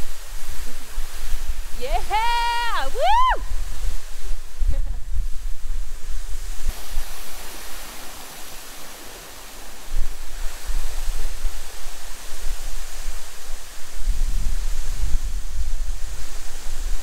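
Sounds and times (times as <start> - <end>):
waterfall rushing: 0.0 - 17.0
wind rumbling on microphone: 0.0 - 17.0.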